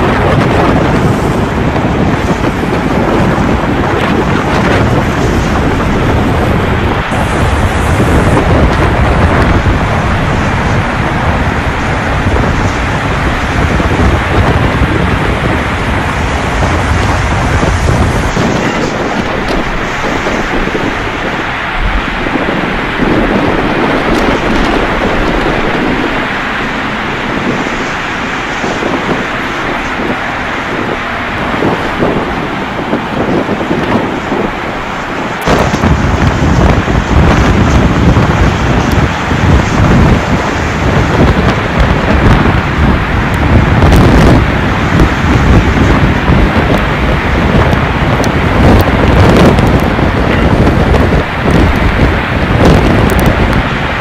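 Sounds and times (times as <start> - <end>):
heavy rain: 0.0 - 54.0
strong wind gusts: 0.0 - 54.0
wind buffeting microphone: 0.0 - 54.0.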